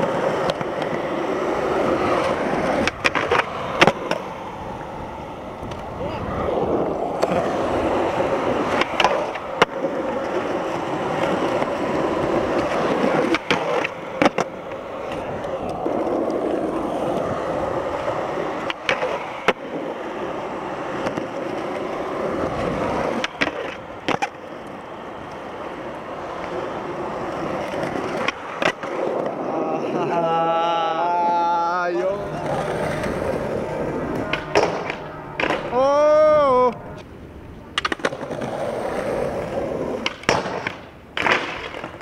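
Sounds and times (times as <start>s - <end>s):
skateboard clacks: 0.0s - 30.2s, 30.9s - 35.8s, 36.6s - 42.0s
skateboard wheels rolling on pavement: 0.0s - 42.0s.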